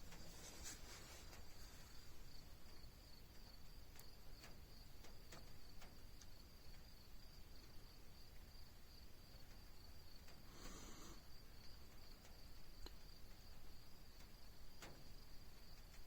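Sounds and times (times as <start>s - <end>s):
faint ticks: 0.1s - 8.6s, 9.3s - 16.0s.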